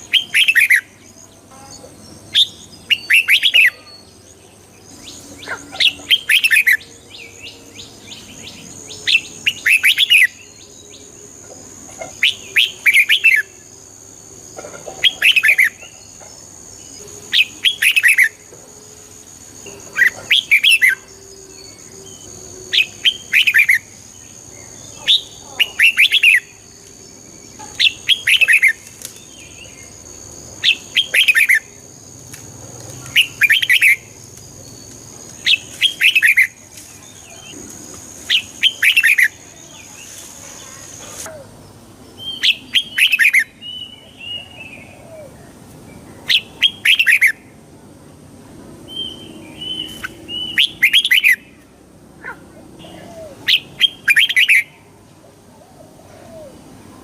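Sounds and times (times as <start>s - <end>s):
bird singing song phrases: 0.0s - 14.1s, 14.9s - 18.5s, 19.4s - 32.0s, 32.9s - 37.6s, 38.3s - 47.4s, 48.8s - 51.7s, 52.6s - 54.9s.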